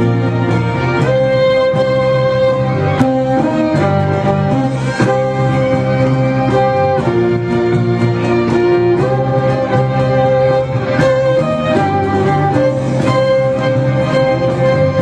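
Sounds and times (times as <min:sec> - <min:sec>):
band backing with light beat: 0:00.0 - 0:15.0
violin bowed notes: 0:00.0 - 0:15.0.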